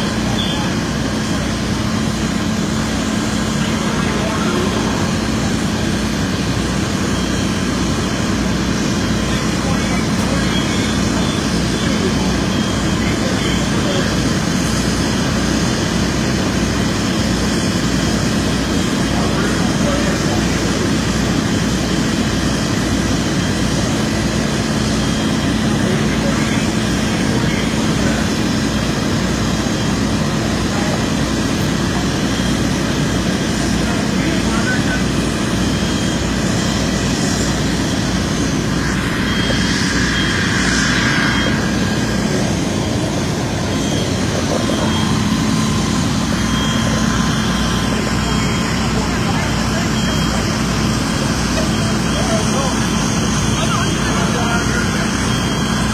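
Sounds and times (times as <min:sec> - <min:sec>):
fire truck engine droning: 0:00.0 - 0:55.9.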